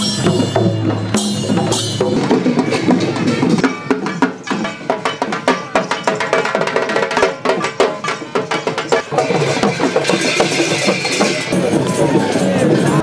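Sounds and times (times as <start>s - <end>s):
rapid drumming: 0.0s - 13.0s.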